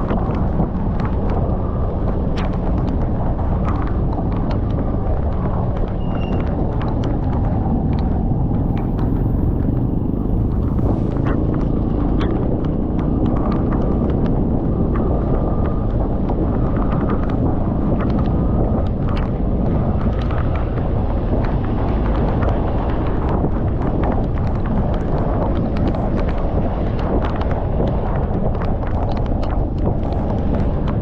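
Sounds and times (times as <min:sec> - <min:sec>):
raindrops ticking on microphone: 0:00.0 - 0:31.0
wind roaring over microphone: 0:00.0 - 0:31.0.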